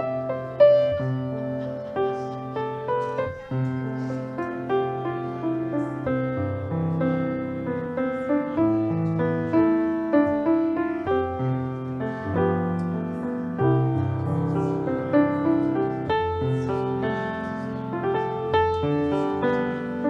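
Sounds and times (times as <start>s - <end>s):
solo piano piece: 0.0s - 20.0s.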